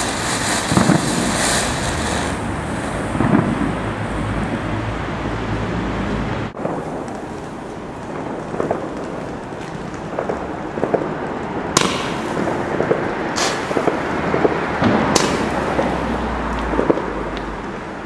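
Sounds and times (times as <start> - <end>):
fireworks crackling hiss: 0.0 - 4.9, 6.5 - 18.0
fireworks bangs: 0.0 - 5.3, 6.5 - 17.6.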